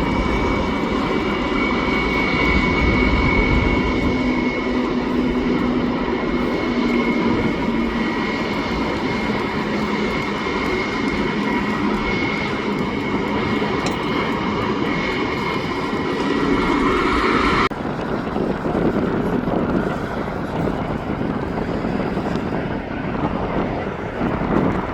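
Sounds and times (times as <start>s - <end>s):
jet engines whining: 0.0s - 24.9s.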